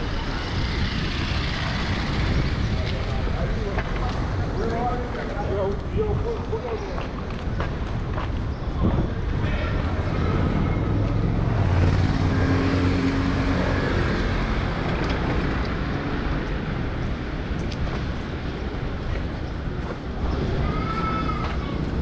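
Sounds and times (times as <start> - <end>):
traffic engines rumbling: 0.0 - 22.0.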